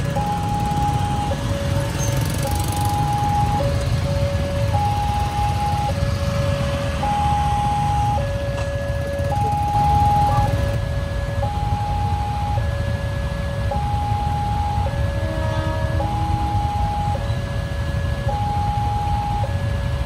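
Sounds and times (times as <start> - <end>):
motorcycle engines idling: 0.0 - 19.4
level crossing two-tone alarm: 0.0 - 20.0.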